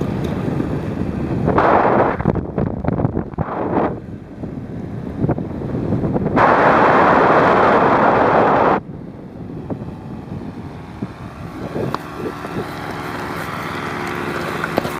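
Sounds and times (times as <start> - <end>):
paramotor engine droning: 0.0 - 14.9
wind buffeting microphone: 0.0 - 14.9.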